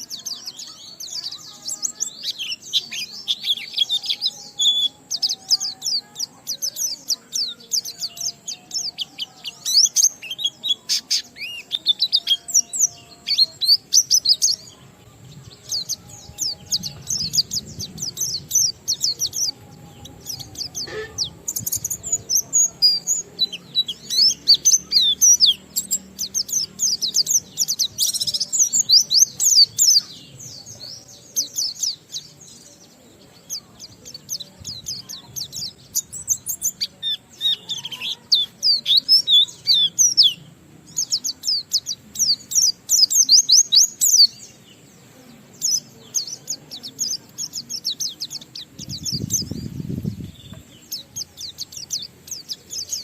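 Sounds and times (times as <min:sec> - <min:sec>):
bird twittering song: 0:00.0 - 0:53.0.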